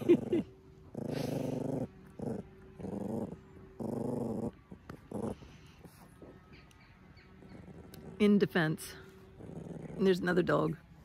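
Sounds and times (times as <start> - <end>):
small dog growling: 0.0 - 6.3, 7.4 - 8.6, 9.2 - 10.6.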